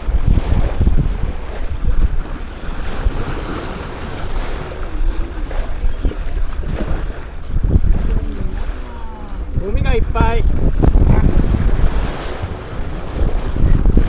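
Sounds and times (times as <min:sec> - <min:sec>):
water slapping against hull: 0:00.0 - 0:14.0
wind buffeting microphone: 0:00.0 - 0:14.0.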